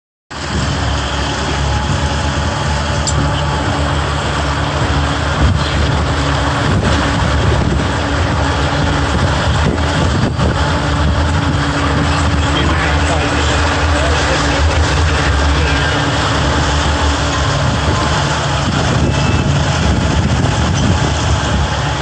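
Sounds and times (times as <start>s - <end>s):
churning wake rushing: 0.3s - 22.0s
outboard motors droning: 0.3s - 22.0s.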